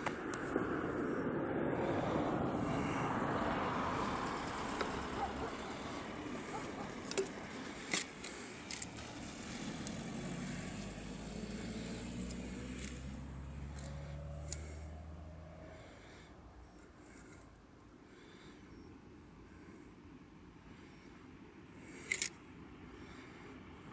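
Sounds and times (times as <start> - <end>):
distant engine drone: 0.0 - 23.9
low hum: 0.0 - 23.9.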